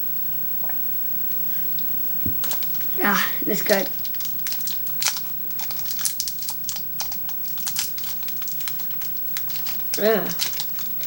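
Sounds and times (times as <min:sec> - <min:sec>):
candy wrapper crinkling: 0:01.8 - 0:11.0.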